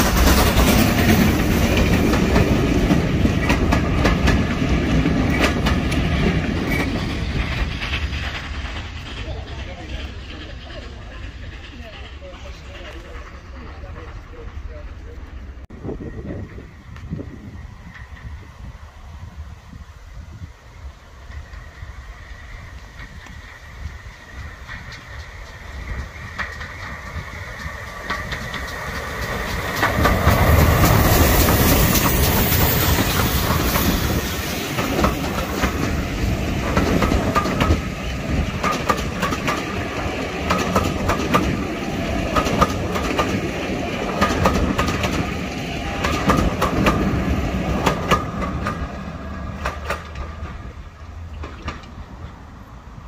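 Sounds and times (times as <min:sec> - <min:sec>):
wheels clacking over rail joints: 0:00.0 - 0:15.6, 0:21.2 - 0:52.9
steam train passing: 0:00.0 - 0:53.0.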